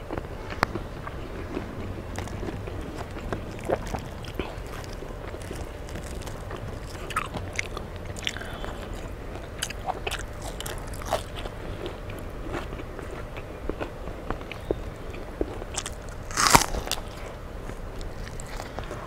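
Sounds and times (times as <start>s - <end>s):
chewing crisp fried fish: 0.0s - 19.0s.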